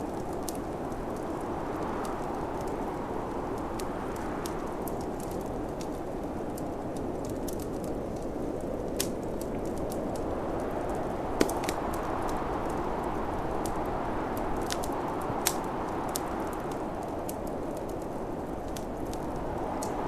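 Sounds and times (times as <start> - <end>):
fire pops and snaps: 0.0 - 20.0
snowstorm wind rushing: 0.0 - 20.0
wood fire crackling: 0.0 - 20.0.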